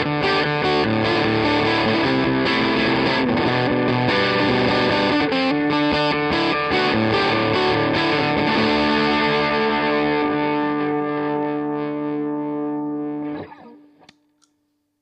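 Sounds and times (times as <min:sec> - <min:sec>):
fuzzy electric guitar: 0:00.0 - 0:14.1.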